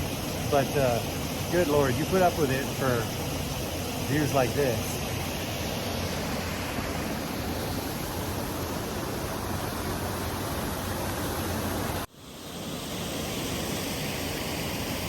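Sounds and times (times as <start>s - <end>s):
water rushing through canyon: 0.0s - 12.1s.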